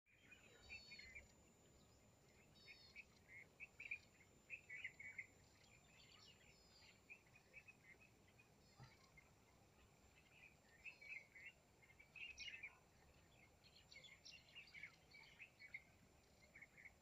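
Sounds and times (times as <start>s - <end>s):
faint bird chirps and twitters: 0.1s - 17.0s.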